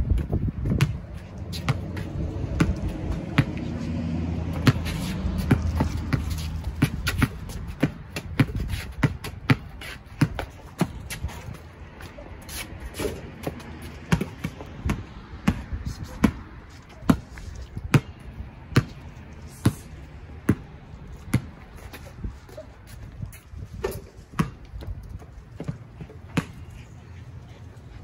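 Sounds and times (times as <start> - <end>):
basketball bouncing on concrete: 0.0 - 11.6, 13.0 - 22.6, 23.6 - 26.8.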